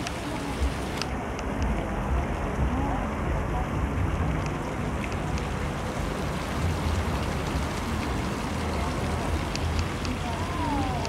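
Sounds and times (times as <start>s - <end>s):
fountain water splashing: 0.0s - 11.0s
wind rumble on microphone: 0.0s - 11.0s.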